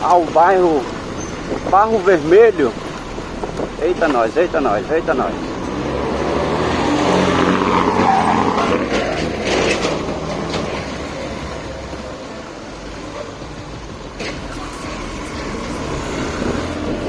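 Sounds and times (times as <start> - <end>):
vehicle travel rumble: 0.0 - 17.0.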